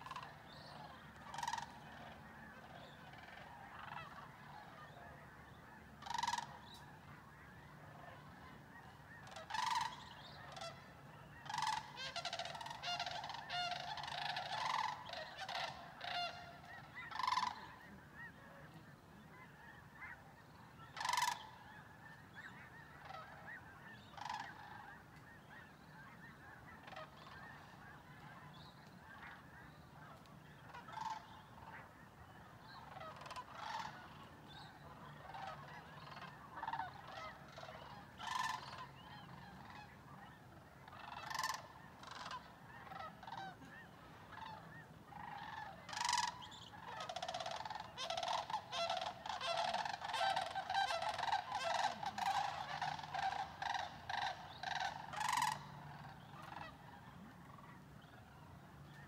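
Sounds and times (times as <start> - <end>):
cranes calling in chorus: 0.0 - 59.0.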